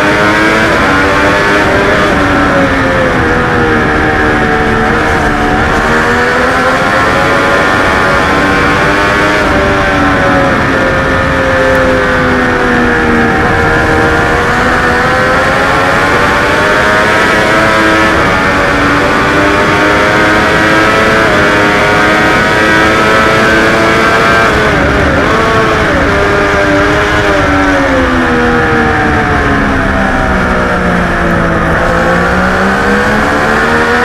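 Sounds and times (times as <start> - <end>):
race motorcycle engine running hard: 0.0 - 34.0
wind rush: 0.0 - 34.0.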